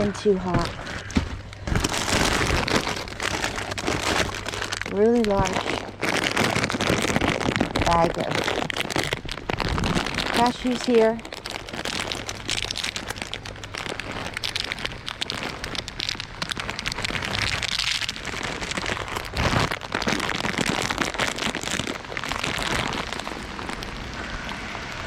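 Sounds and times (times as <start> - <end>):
rain pattering: 1.5 - 25.0.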